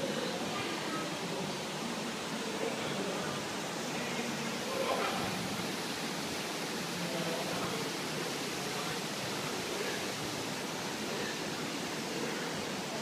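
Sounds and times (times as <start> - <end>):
faint voices murmuring: 0.0 - 13.0.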